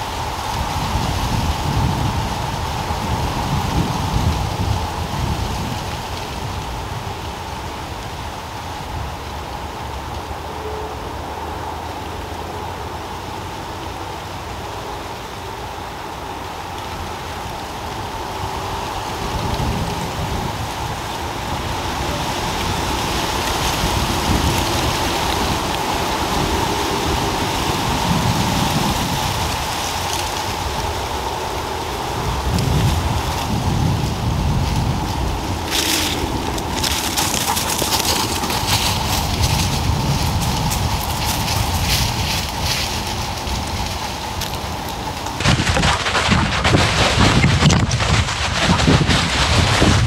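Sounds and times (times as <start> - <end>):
wind gusts buffeting microphone: 0.0 - 10.4, 13.0 - 50.0
wind rushing through trees: 0.0 - 50.0.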